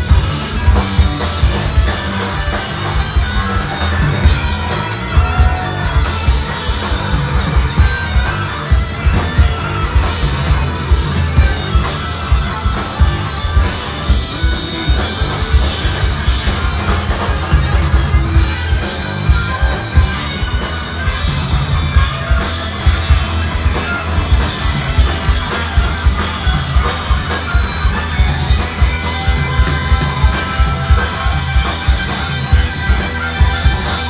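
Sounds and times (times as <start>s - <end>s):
drum kit beat: 0.0s - 34.0s
electric bass: 0.0s - 34.0s
electric guitars: 0.0s - 34.0s.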